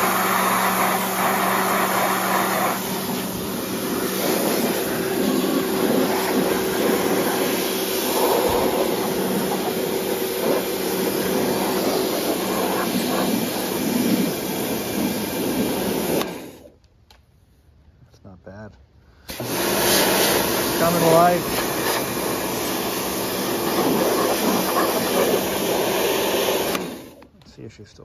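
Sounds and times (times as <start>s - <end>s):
pressure washer spraying hiss: 0.0s - 16.6s, 19.3s - 27.2s.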